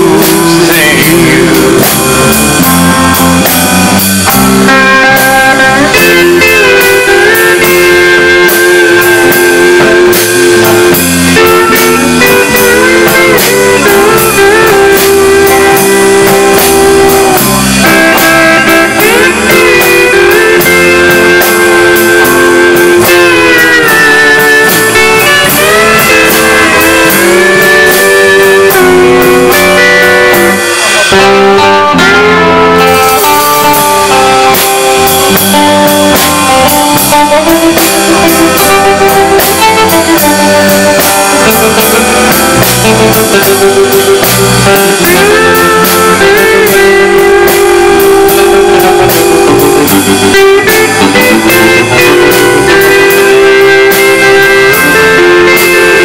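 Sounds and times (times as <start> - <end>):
country band playing live: 0.0 - 56.0
lead guitar bending notes: 0.0 - 56.0.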